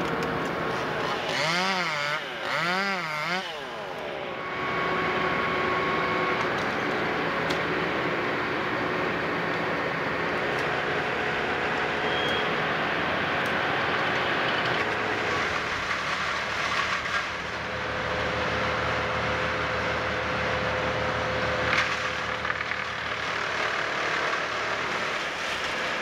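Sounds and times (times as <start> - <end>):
busy work site noise: 0.0 - 26.0
work vehicle engine running: 0.0 - 26.0.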